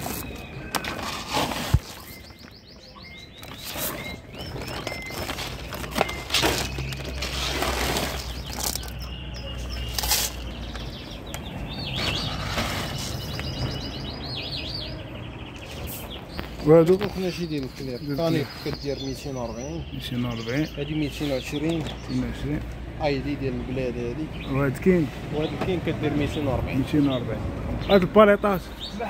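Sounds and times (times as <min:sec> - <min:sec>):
cage birds chirping and trilling: 0:00.0 - 0:29.0.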